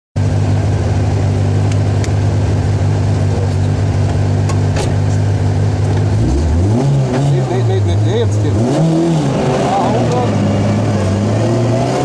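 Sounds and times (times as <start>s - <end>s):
car engine running steadily: 0.2s - 12.0s.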